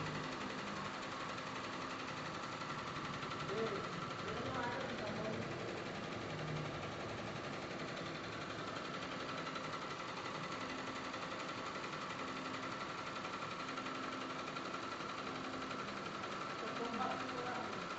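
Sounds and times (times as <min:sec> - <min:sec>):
embroidery machine stitching: 0:00.0 - 0:17.9.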